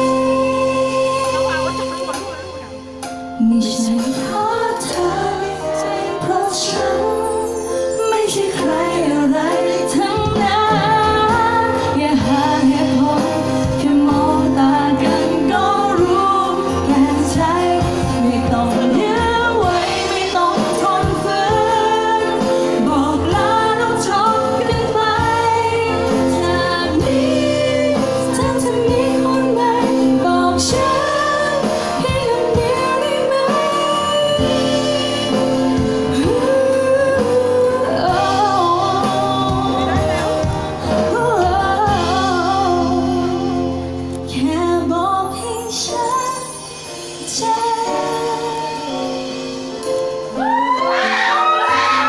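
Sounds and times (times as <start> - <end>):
guitar accompaniment: 0.0 - 52.0
woman singing pop ballad: 0.0 - 52.0.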